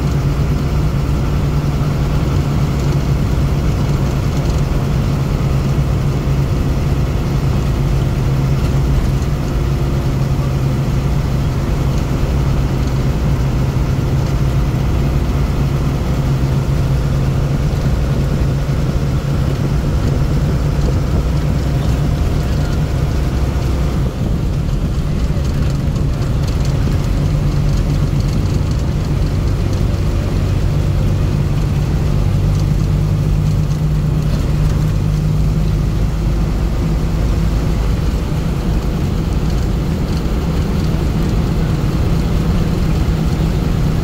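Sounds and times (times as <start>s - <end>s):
road noise: 0.0s - 44.0s
vehicle engine hum: 0.0s - 44.0s.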